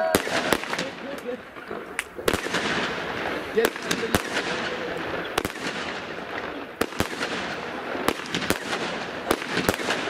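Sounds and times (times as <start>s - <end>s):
fireworks crackling hiss: 0.0s - 10.0s
fireworks sharp bangs: 0.0s - 10.0s.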